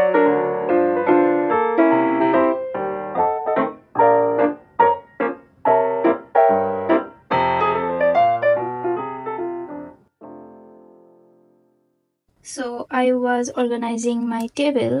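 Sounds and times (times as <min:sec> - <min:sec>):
piano music: 0:00.0 - 0:12.2.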